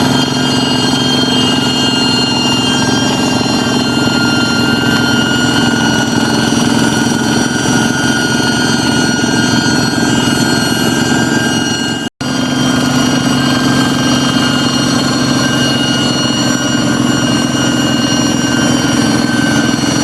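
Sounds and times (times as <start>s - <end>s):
diesel tractor engine running: 0.0s - 20.0s
high steady whine: 0.0s - 20.0s.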